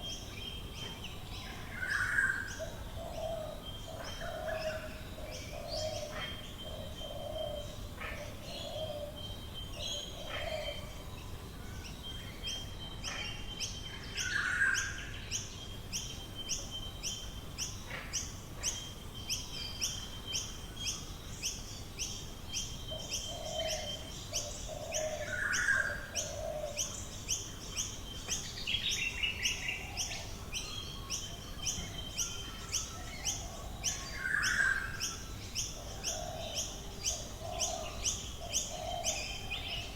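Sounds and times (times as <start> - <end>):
birds singing dawn chorus: 0.0 - 39.9.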